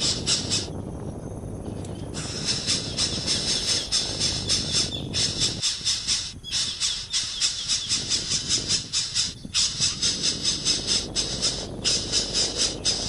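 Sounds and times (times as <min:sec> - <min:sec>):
nestling bird calling: 0:00.0 - 0:13.0.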